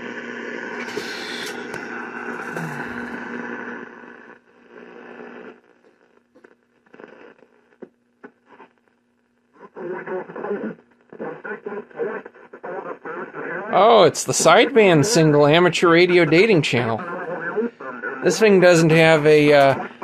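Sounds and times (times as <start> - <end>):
faint scattered crackles: 0.0 - 20.0
radio static hiss: 0.0 - 20.0.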